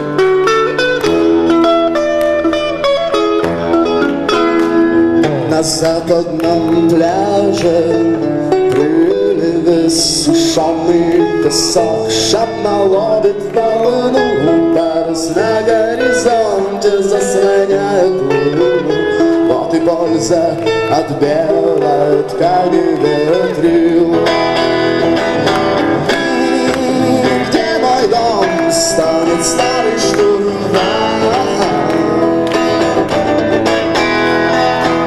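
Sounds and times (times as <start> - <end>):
bass: 0.0 - 35.0
electric guitar melody: 0.0 - 35.0.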